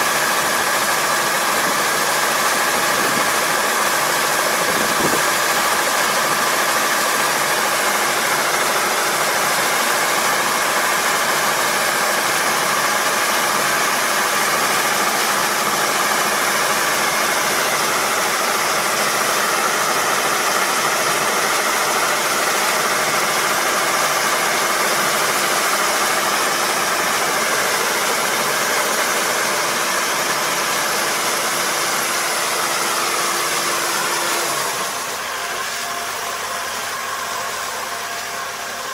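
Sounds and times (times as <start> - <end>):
combine harvester running: 0.0 - 38.9
unloading auger running: 0.0 - 38.9.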